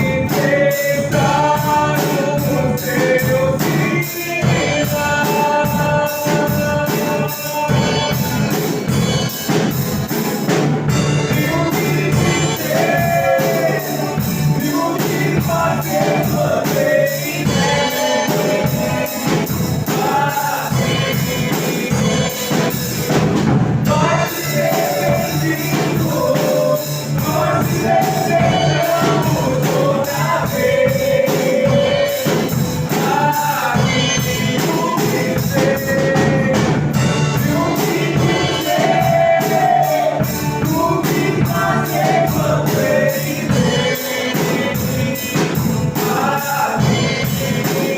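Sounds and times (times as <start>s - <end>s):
church band playing: 0.0s - 47.9s
singers singing praise song: 0.0s - 47.9s.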